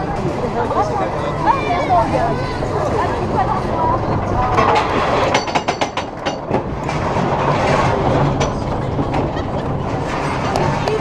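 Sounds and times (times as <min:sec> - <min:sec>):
roller coaster cars rumbling: 0:00.0 - 0:11.0
roller coaster track clacks: 0:00.0 - 0:11.0.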